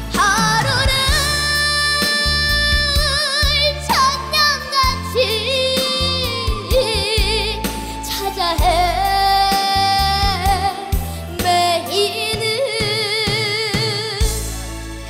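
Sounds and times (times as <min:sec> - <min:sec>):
girl singing into a microphone: 0:00.0 - 0:14.2
band accompaniment: 0:00.0 - 0:15.0.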